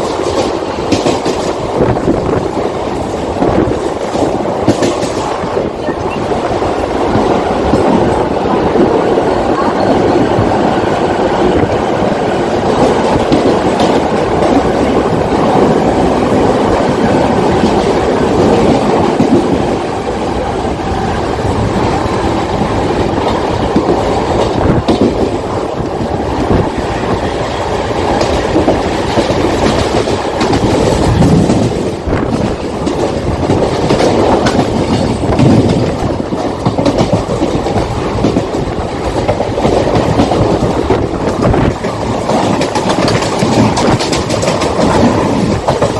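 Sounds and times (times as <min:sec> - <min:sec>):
sharp knocks of train wheels: 0:00.0 - 0:09.4, 0:10.0 - 0:45.9
train wheels rumbling on rails: 0:00.0 - 0:45.9.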